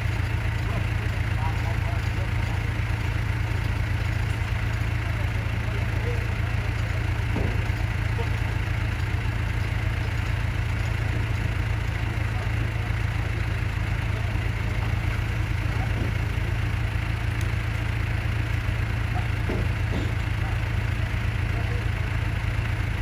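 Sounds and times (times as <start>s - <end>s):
motorboat engine idling: 0.0s - 23.0s.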